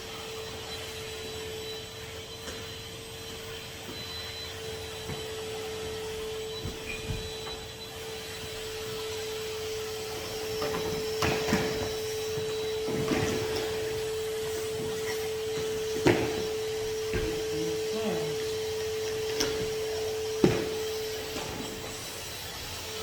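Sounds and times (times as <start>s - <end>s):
vacuum cleaner motor whine: 0.0s - 23.0s.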